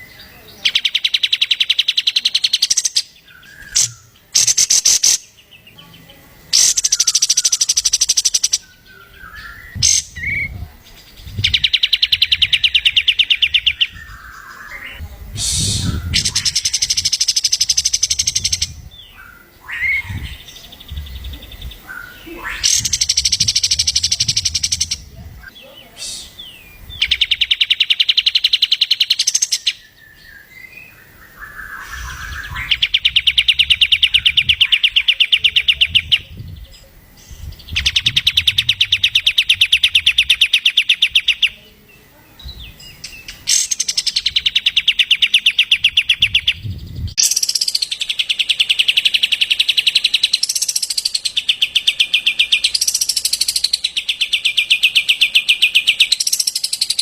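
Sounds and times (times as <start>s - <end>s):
songbird rattling trill: 0.0s - 25.6s, 26.3s - 41.6s, 42.5s - 57.0s.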